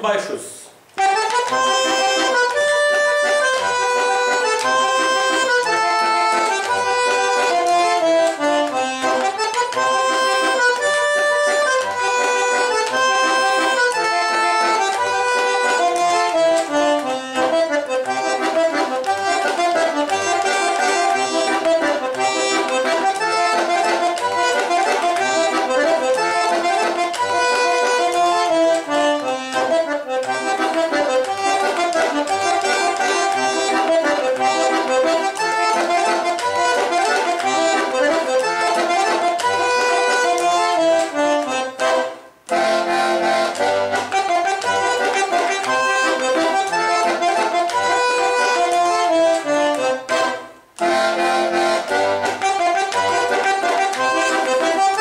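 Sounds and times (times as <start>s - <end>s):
button accordion folk tune: 0.9s - 55.0s.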